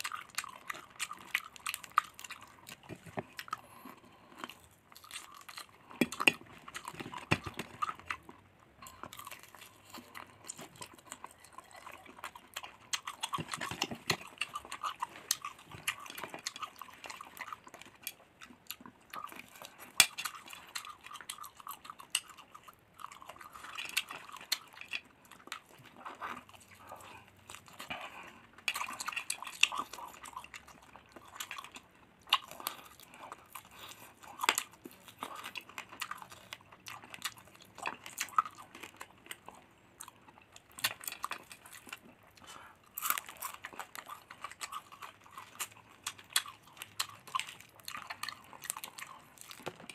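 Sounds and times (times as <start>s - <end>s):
crunchy chewing: 0.0s - 49.9s.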